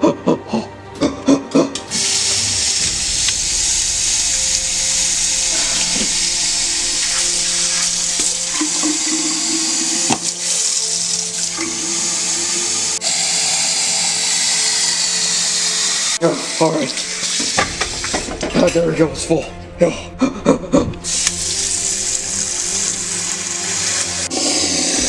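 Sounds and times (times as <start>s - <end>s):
tap water filling container: 1.8s - 18.5s, 21.0s - 25.0s.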